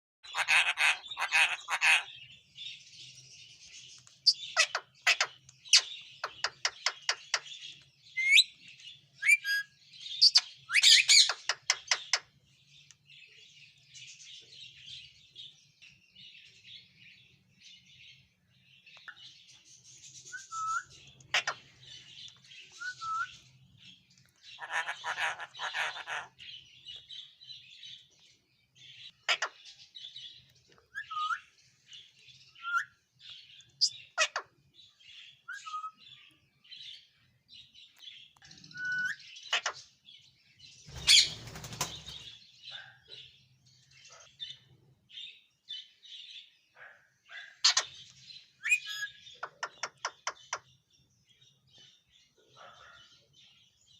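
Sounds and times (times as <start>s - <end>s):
birds chirping and twittering: 0.2s - 53.9s.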